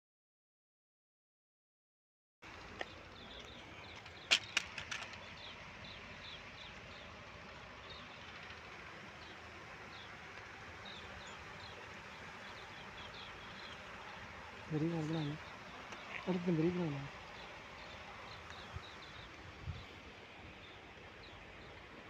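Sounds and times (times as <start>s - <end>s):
small birds chirping: 2.4s - 22.0s.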